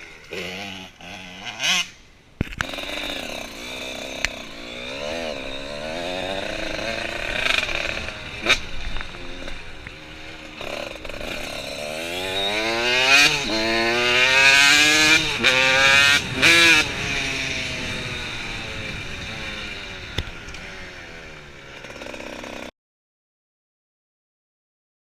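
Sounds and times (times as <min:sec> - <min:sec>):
motorcycle engine accelerating: 0:00.0 - 0:22.7.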